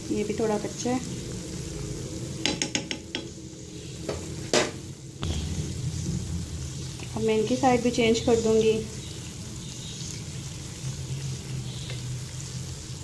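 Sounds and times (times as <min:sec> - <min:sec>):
fritters sizzling in oil: 0:00.0 - 0:13.0.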